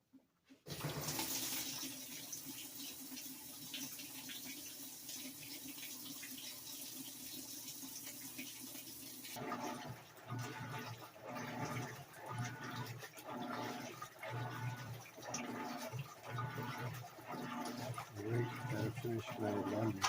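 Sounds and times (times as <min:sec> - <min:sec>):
water filling washing machine: 0:00.6 - 0:20.0.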